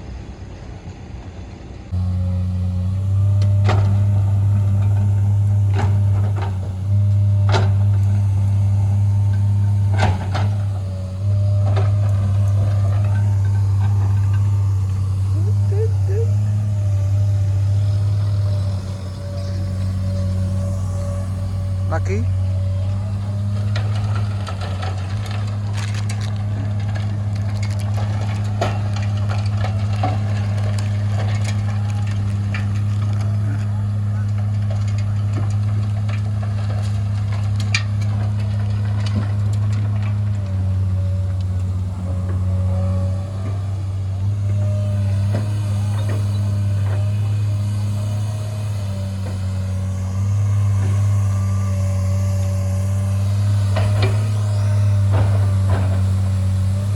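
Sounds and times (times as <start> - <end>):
diesel engine humming: 1.9 - 56.9
knocks and crunching clatter: 1.9 - 56.9.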